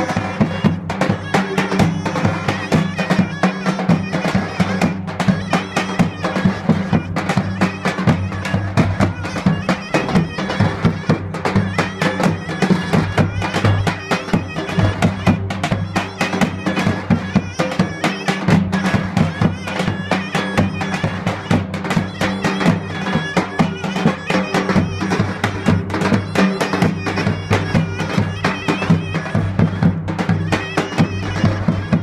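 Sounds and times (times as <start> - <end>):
davul drums beating fast: 0.0 - 32.0
zurna playing folk melody: 0.0 - 32.0.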